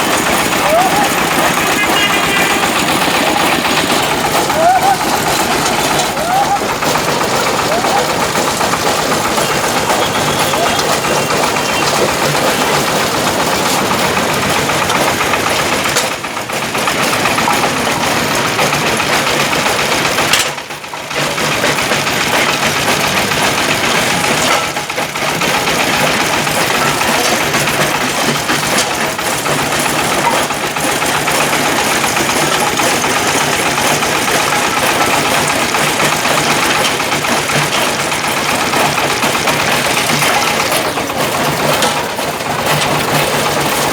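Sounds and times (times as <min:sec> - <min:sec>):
brick-breaking machine clatter: 0:00.0 - 0:43.9
engine drone: 0:00.0 - 0:43.9.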